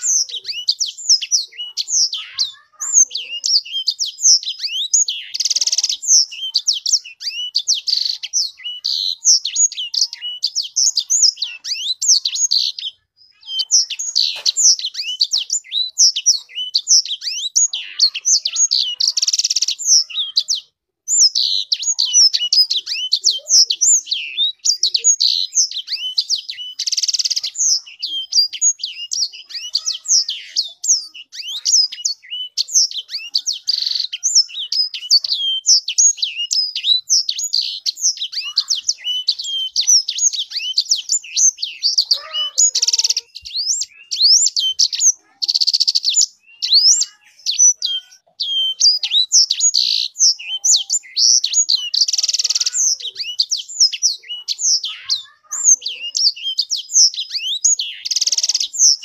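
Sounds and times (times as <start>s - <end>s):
finch singing high chirps: 0.0s - 59.0s.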